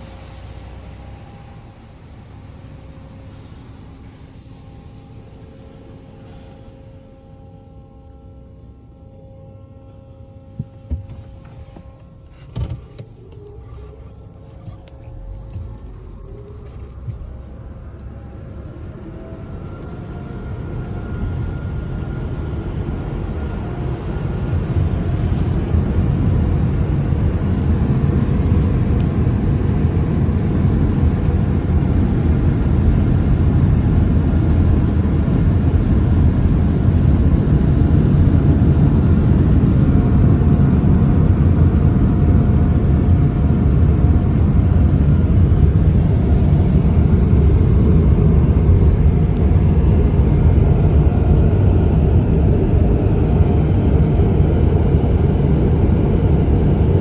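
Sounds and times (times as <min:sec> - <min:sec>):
car wash machinery rumbling: 0:00.0 - 0:57.0.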